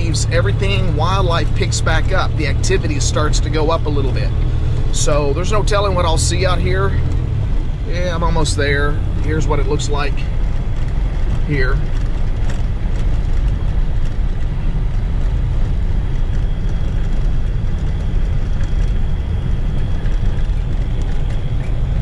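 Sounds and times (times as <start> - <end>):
truck engine and tyres rumbling: 0.0 - 22.0.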